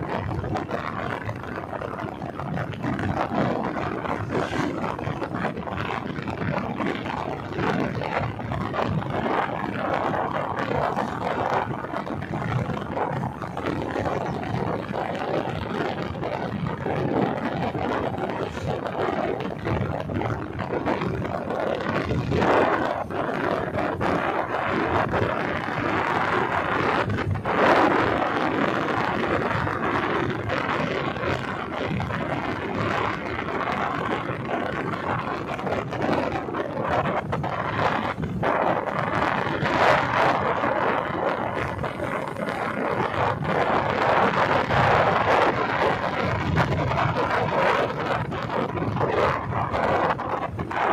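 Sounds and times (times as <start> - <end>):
motorcycle running: 0.0 - 50.9
wind rushing over microphone: 0.0 - 50.9.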